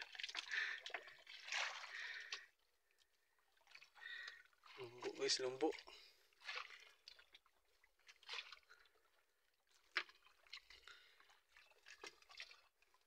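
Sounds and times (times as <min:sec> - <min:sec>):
wet net swishing and dripping: 0:00.0 - 0:04.4, 0:06.4 - 0:13.0.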